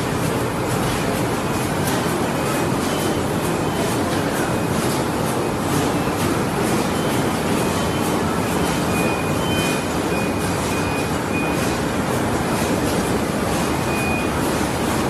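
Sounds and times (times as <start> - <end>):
machine running: 0.0 - 15.0.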